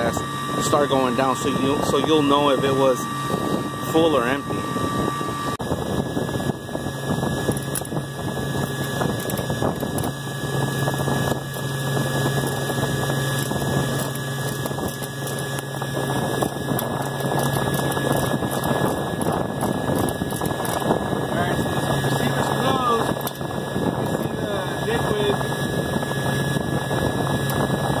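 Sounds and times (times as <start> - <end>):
condensing unit humming: 0.0 - 28.0
low hum: 0.0 - 28.0.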